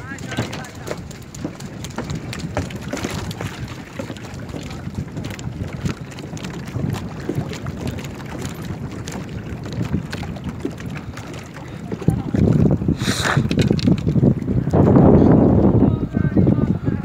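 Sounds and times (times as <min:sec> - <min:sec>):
wind blowing on microphone: 0:00.0 - 0:17.0.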